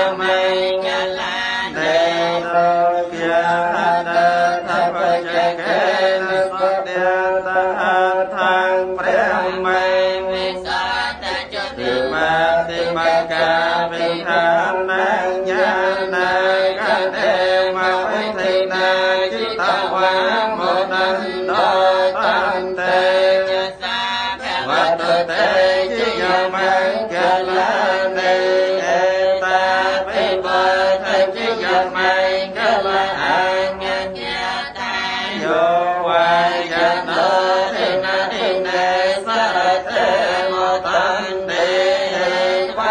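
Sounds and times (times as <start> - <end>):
group chanting: 0.0 - 42.9.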